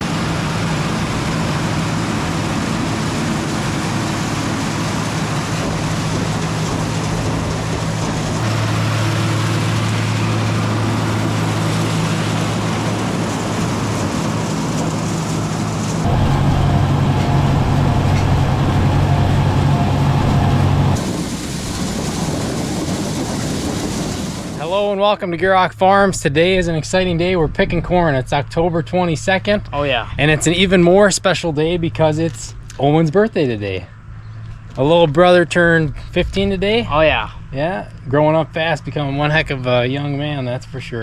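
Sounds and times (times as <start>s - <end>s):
tractor engines running: 0.0s - 41.0s.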